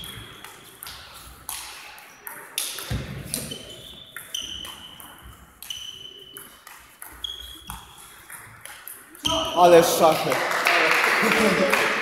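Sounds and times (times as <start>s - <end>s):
shoes squeaking on floor: 0.0s - 9.8s.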